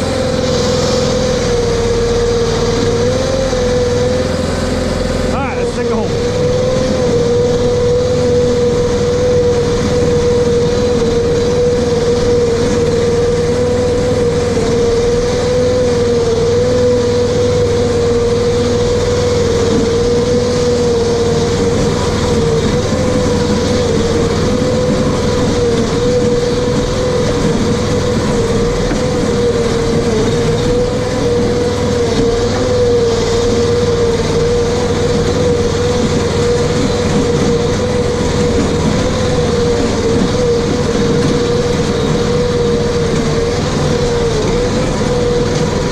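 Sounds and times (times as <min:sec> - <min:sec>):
engine running with whine: 0:00.0 - 0:45.9.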